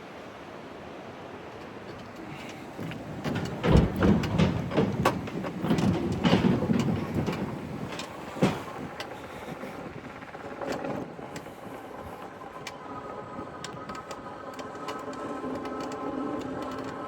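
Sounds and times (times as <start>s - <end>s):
tyre and wind noise: 1.4s - 15.8s
bike clicks and rattles: 1.5s - 17.0s.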